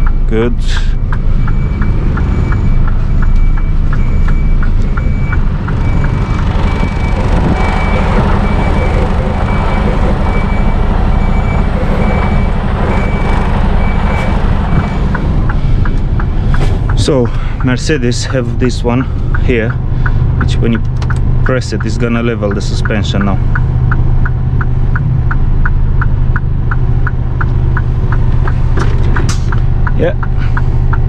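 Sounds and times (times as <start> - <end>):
reversing alarm beeping: 0.0 - 19.4, 21.6 - 28.7
diesel truck engine running: 0.0 - 31.0.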